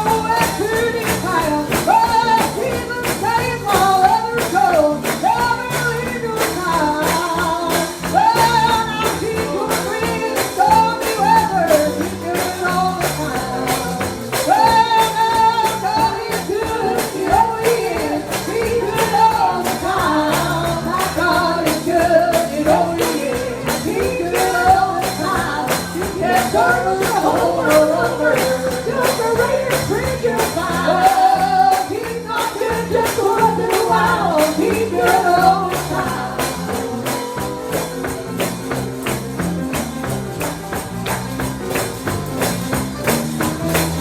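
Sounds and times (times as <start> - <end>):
gospel singing: 0.0 - 44.0
steady percussion beat: 0.0 - 44.0.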